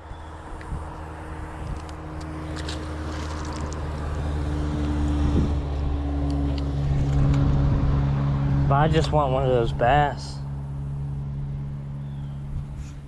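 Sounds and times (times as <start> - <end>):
engine low hum approaching: 0.0 - 13.0.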